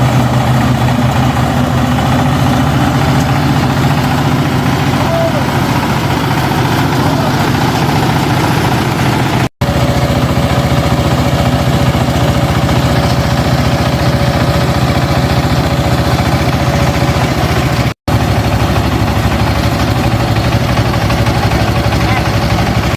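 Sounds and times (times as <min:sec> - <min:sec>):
combine harvester engine idling: 0:00.0 - 0:22.9.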